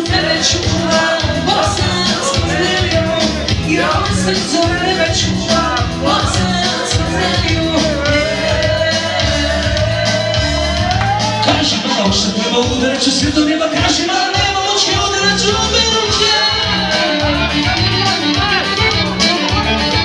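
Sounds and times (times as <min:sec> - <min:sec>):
live party band music: 0:00.0 - 0:20.0.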